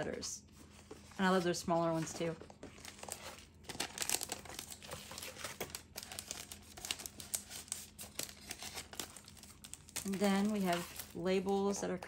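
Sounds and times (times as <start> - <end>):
sticker sheets crinkling: 0.9 - 12.0.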